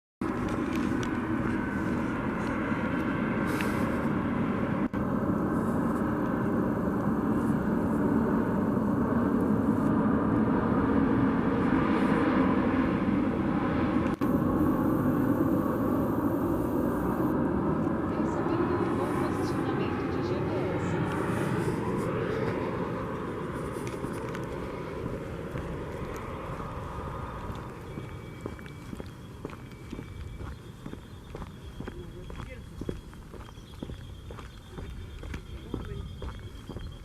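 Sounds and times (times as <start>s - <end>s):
airplane engine drone: 0.2s - 37.0s.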